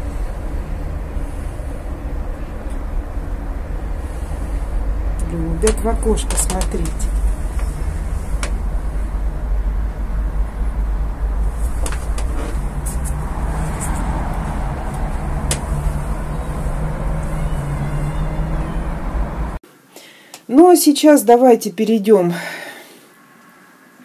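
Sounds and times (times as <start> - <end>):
city traffic rumble: 0.0 - 19.6.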